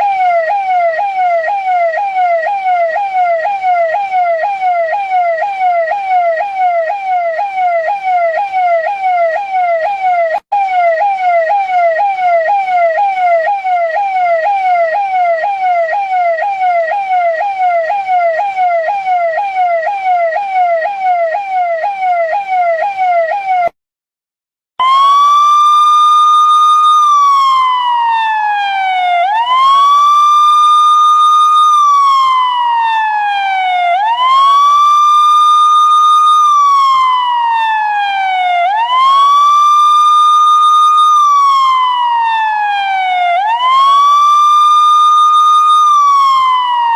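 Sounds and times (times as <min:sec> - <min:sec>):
police siren wail: 0:00.0 - 0:23.8, 0:24.8 - 0:46.9
police siren yelp: 0:00.0 - 0:23.8, 0:24.8 - 0:46.9.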